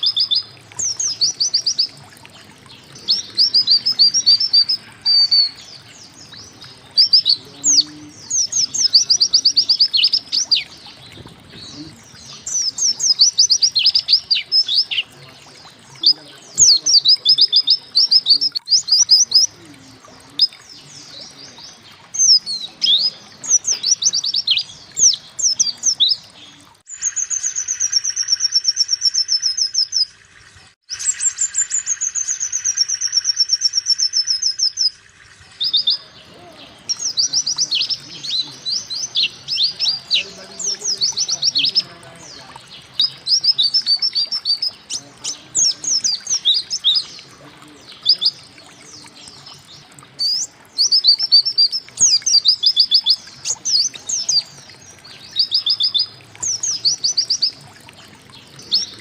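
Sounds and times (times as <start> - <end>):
bird trilling: 0.0 - 2.0, 2.6 - 30.1, 35.6 - 57.6
bird chirping: 0.0 - 59.0.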